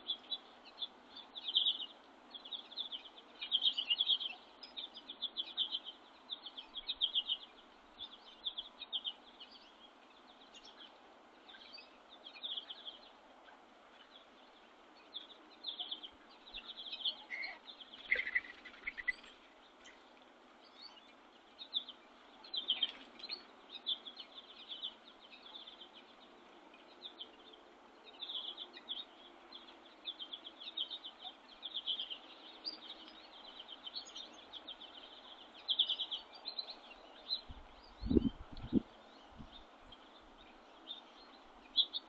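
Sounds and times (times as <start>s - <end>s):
faint background hiss: 0.0s - 42.0s
songbirds chirping: 0.0s - 42.0s.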